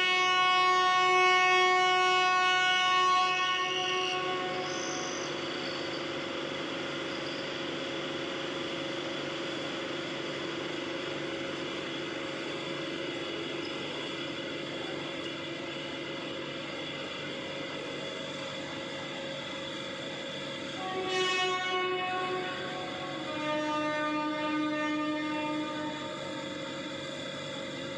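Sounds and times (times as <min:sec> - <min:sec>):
model locomotive whirring: 0:00.0 - 0:27.9.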